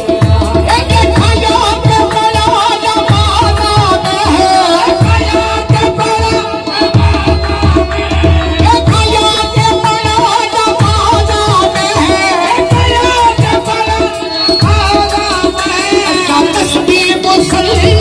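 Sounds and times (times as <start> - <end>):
harmonium melody: 0.0 - 18.0
tabla beat: 0.0 - 18.0.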